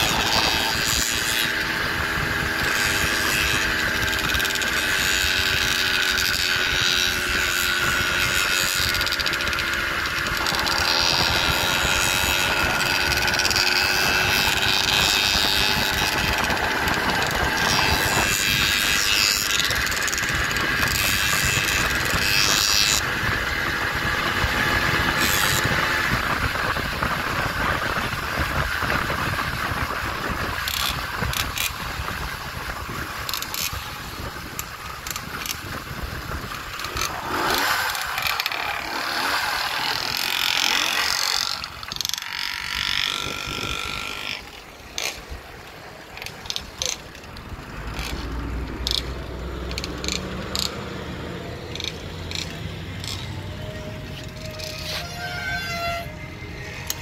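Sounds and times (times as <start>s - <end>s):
small engine running: 0.0s - 57.0s
wind and road noise: 0.0s - 57.0s.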